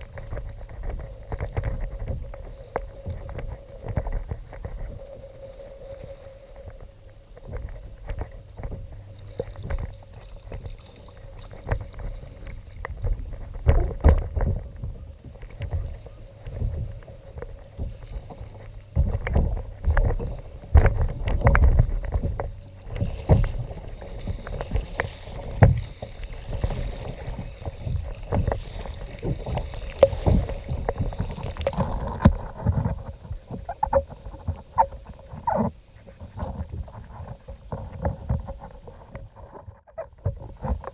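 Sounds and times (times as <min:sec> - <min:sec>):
paddle strokes: 0:00.0 - 0:40.9
water sloshing against hull: 0:00.0 - 0:40.9.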